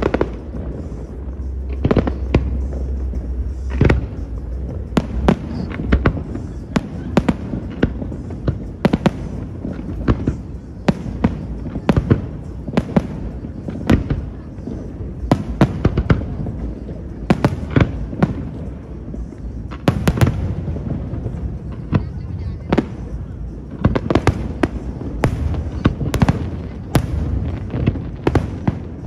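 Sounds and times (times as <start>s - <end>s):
continuous low rumble: 0.0s - 29.0s
fireworks bangs: 0.0s - 29.0s.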